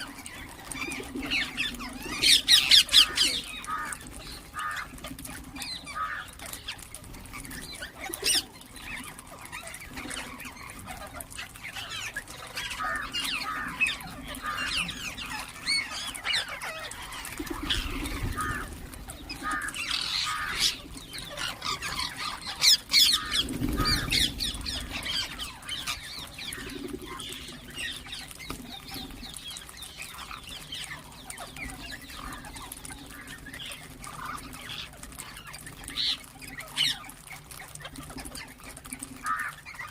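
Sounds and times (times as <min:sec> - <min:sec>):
parakeets chirping and squawking: 0:00.0 - 0:39.9.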